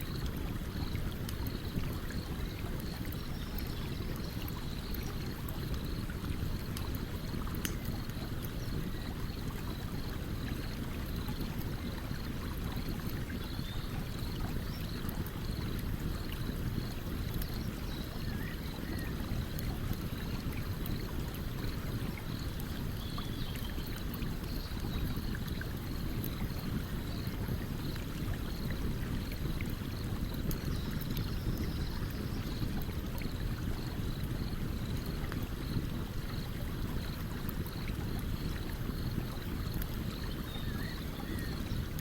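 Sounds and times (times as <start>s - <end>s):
stream water running: 0.0s - 42.0s.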